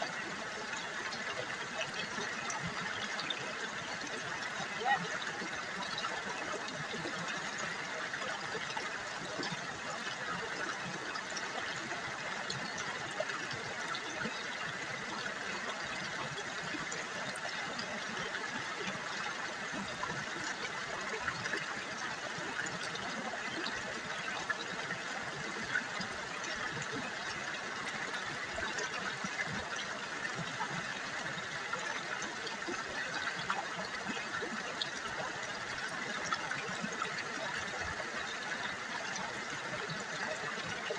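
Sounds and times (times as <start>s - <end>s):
river water babbling over stones: 0.0s - 40.9s.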